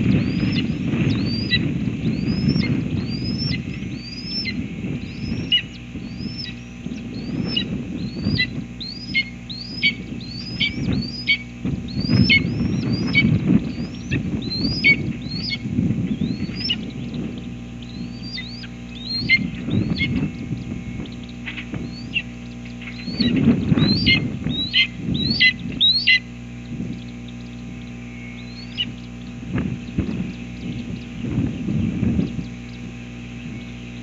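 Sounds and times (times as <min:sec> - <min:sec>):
hawk nestlings chirping: 0:00.0 - 0:34.0
low uneven rumble: 0:00.0 - 0:34.0.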